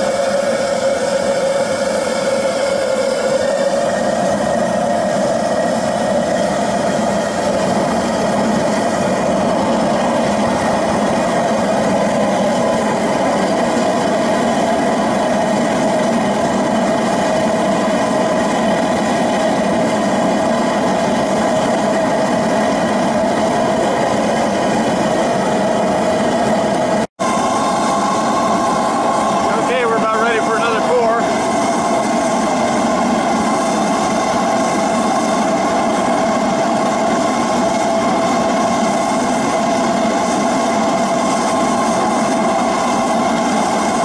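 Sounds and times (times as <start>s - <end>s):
burner blower and flame rushing: 0.0s - 44.0s
hum: 0.0s - 44.0s.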